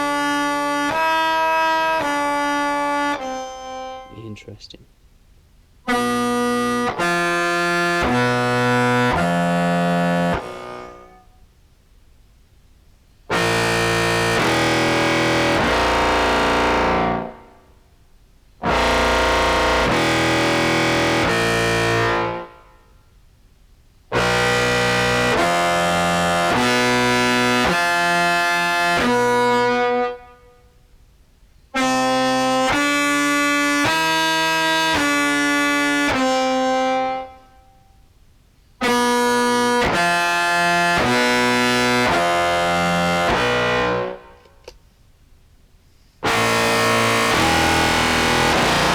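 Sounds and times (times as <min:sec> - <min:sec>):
distorted clarinet held notes: 0:00.0 - 0:04.8, 0:05.9 - 0:11.2, 0:13.3 - 0:17.7, 0:18.6 - 0:22.6, 0:24.1 - 0:30.5, 0:31.8 - 0:37.9, 0:38.8 - 0:44.7, 0:46.2 - 0:48.9.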